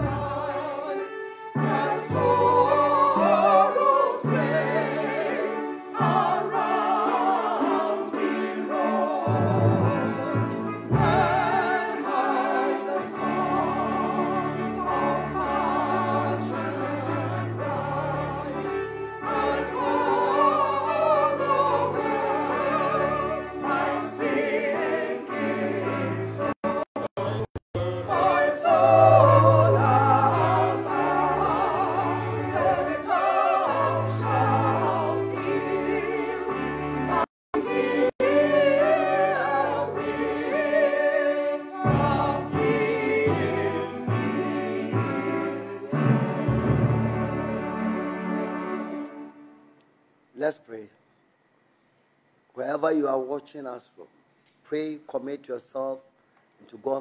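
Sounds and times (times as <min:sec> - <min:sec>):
choir singing a hymn: 0:00.0 - 0:49.6.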